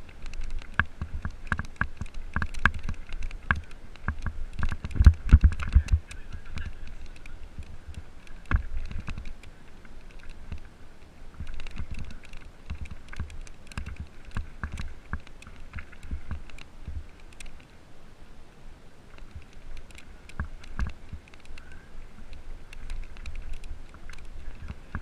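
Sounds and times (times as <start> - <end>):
bike rattling: 0.0 - 17.7, 19.1 - 25.0.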